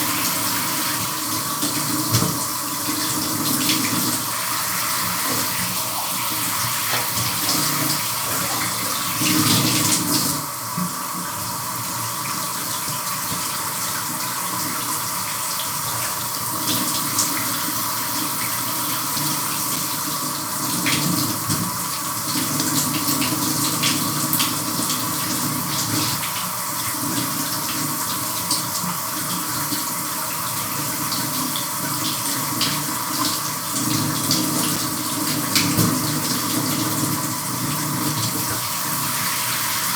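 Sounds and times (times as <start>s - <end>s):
shower water running: 0.0s - 39.9s.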